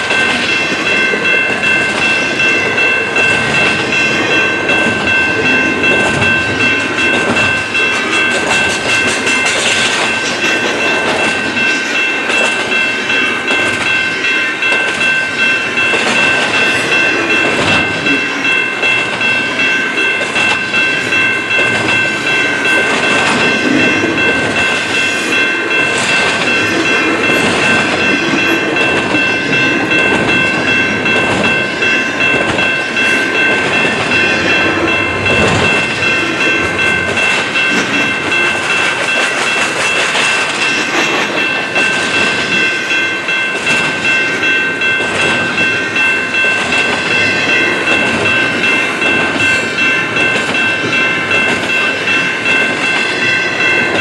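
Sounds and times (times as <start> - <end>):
freight cars clickety-clack on rails: 0.0 - 54.0
high-pitched ringing tones: 0.1 - 54.0.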